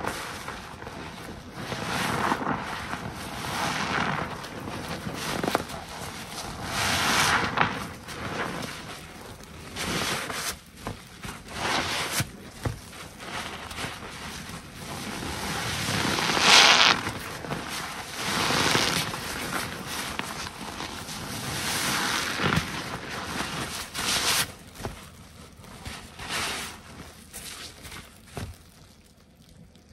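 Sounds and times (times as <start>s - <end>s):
sponge squelching in suds: 0.1s - 29.9s.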